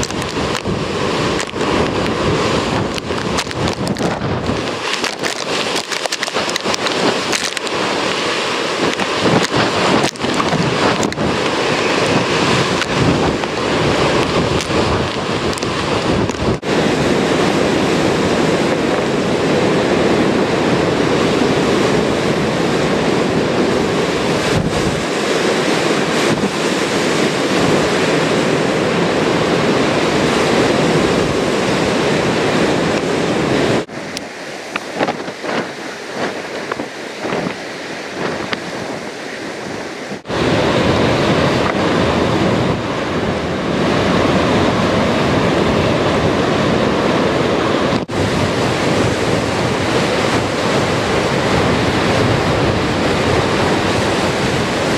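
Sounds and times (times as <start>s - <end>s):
storm surf crashing against rocks: 0.0s - 54.9s
wind buffeting the microphone: 0.0s - 54.9s.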